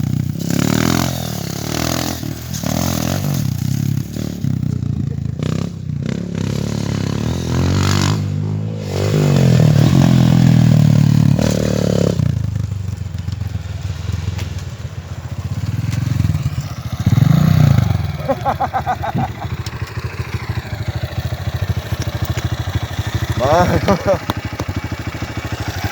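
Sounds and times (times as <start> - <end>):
dirt bike engine revving: 0.0 - 12.7, 15.3 - 25.9.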